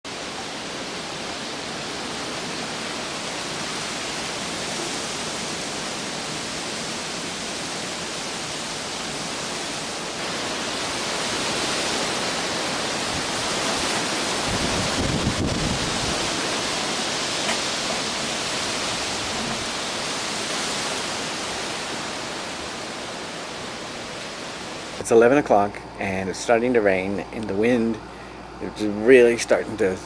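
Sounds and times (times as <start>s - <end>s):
hurricane wind rushing: 0.1s - 30.0s.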